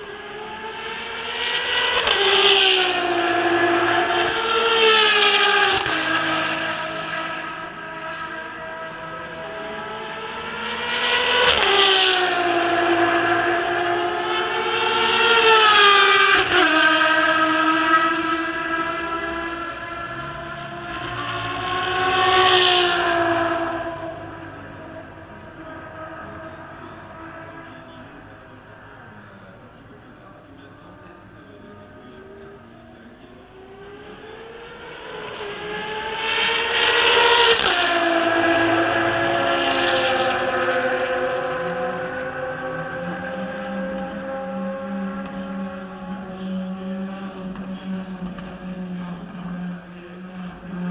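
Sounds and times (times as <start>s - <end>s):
race cars passing at high revs: 0.0s - 50.9s.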